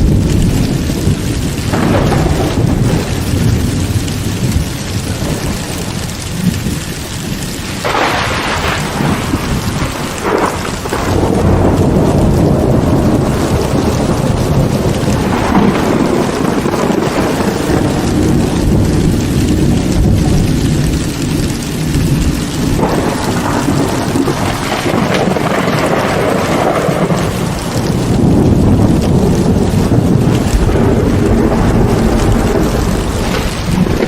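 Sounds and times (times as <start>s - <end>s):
heavy rain falling: 0.0s - 34.0s
low thunder rumbling: 0.0s - 34.0s.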